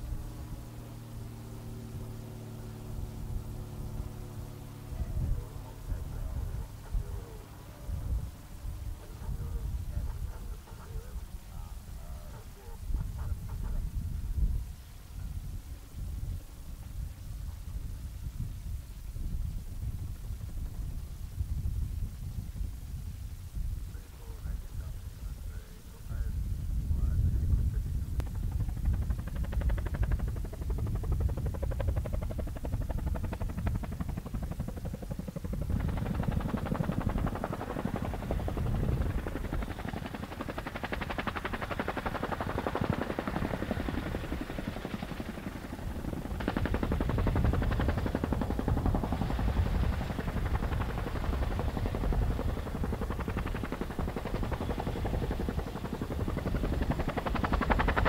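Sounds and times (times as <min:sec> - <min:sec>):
helicopter rotor chopping: 0:00.0 - 0:21.8, 0:23.8 - 0:58.0.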